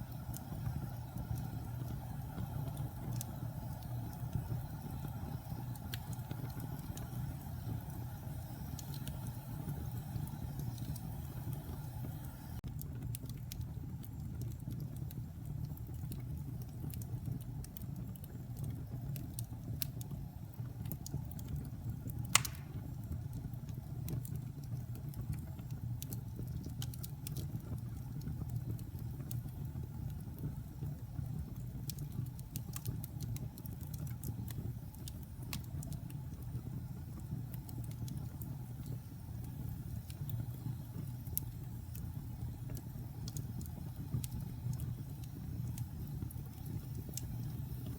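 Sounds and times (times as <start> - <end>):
fire crackling: 0.0 - 47.9
log fire rumbling: 0.0 - 47.9.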